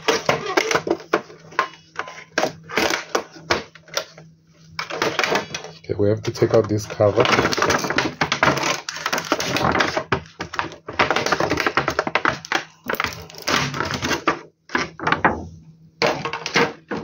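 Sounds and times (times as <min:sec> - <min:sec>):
faint low hum: 0:00.0 - 0:16.8.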